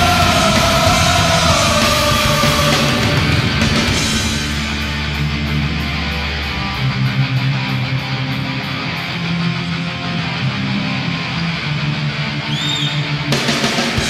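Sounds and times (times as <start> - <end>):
heavy rock music: 0.0 - 14.0.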